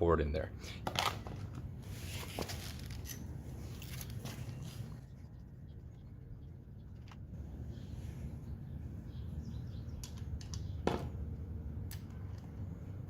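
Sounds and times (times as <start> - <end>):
low steady rumble: 1.2 - 13.0.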